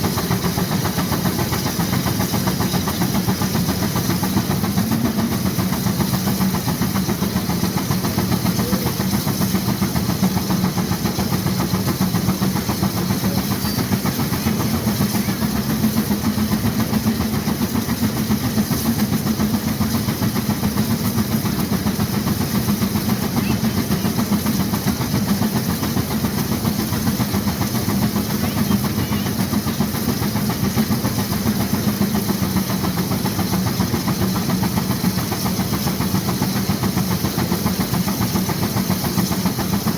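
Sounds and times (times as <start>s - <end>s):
steam engine exhaust beating: 0.0s - 39.9s
steam hissing: 0.0s - 39.9s.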